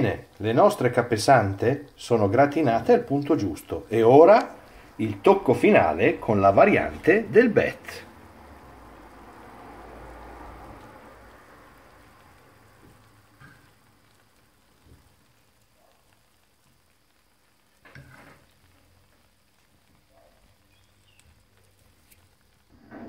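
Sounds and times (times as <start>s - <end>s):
food sizzling on baking tray: 0.0s - 23.0s.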